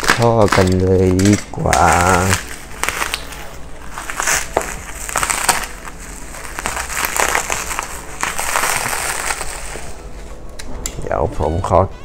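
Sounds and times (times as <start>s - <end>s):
bubble wrap crinkling: 0.0s - 10.7s.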